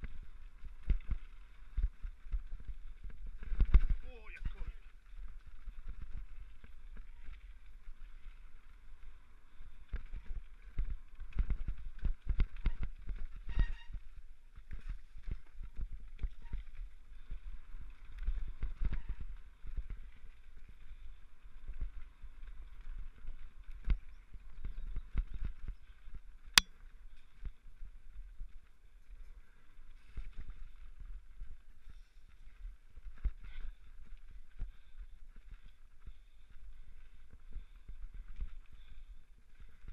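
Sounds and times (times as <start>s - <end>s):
mountain bike rattling on rough trail: 0.0s - 39.9s.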